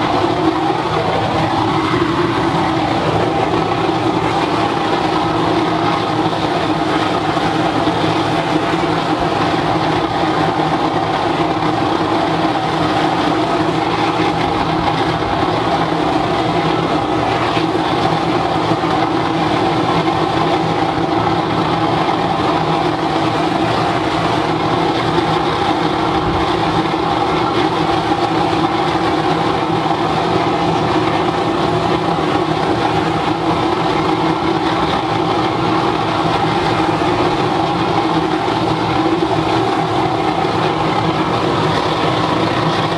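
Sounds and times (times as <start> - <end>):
burner flame roaring: 0.0 - 42.9
steady tonal hum: 0.0 - 42.9.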